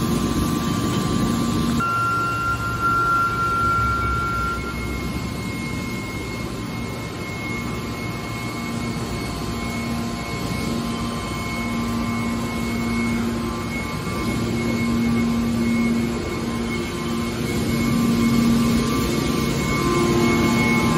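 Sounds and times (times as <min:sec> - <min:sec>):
hydraulic power unit hum: 0:00.0 - 0:20.9.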